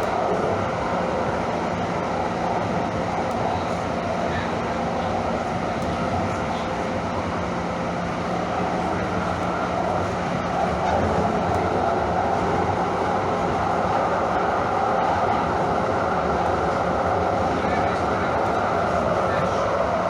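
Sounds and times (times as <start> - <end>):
light-rail train wheels rumbling: 0.0 - 20.0.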